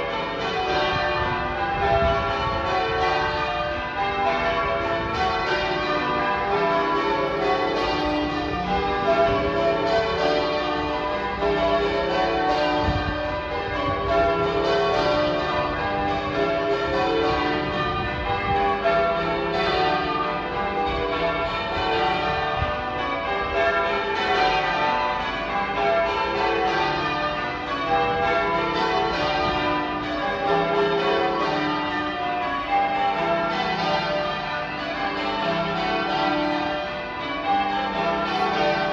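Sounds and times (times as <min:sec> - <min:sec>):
church bells ringing in changes: 0:00.0 - 0:38.9.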